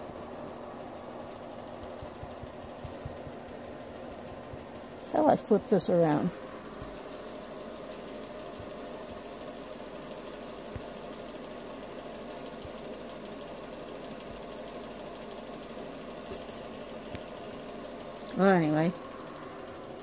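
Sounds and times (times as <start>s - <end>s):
small motor humming: 0.0s - 20.0s.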